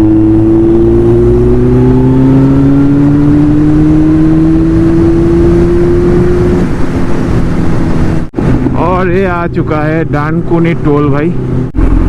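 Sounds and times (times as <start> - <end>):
motorcycle engine accelerating: 0.0 - 9.3, 10.7 - 12.0.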